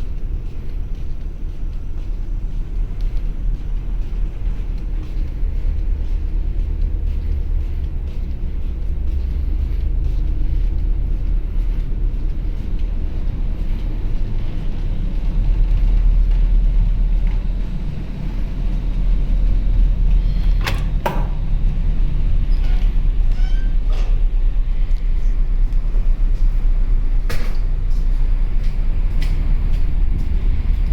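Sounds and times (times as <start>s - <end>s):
ferry engine rumble: 0.0s - 30.9s.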